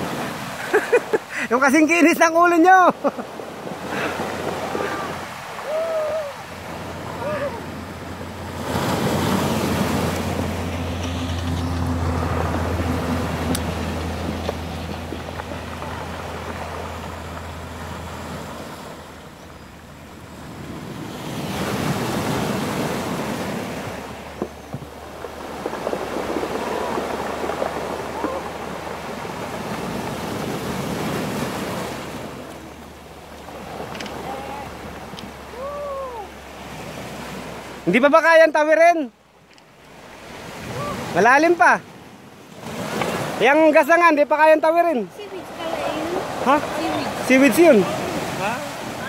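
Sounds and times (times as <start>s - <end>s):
sea surf breaking on shore: 0.0s - 49.0s.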